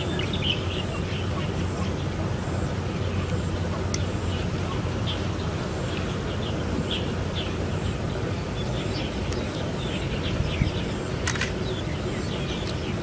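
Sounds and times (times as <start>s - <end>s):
steady hiss: 0.0s - 13.0s
thin high whine: 0.0s - 13.0s.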